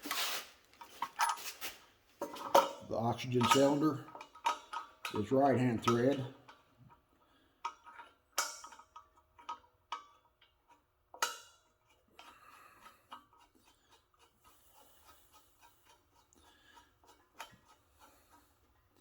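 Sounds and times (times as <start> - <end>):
metal nut clicking and ticking: 2.3 - 7.0, 7.6 - 18.5.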